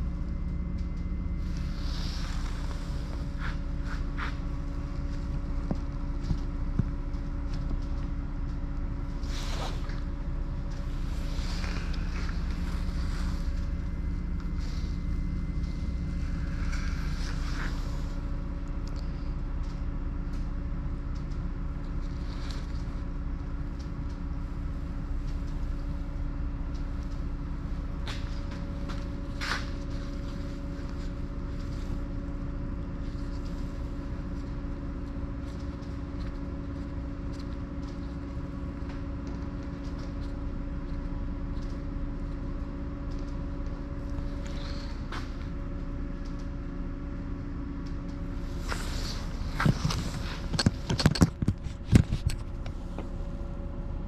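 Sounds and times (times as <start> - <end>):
mechanical rumble and hum: 0.0 - 54.0.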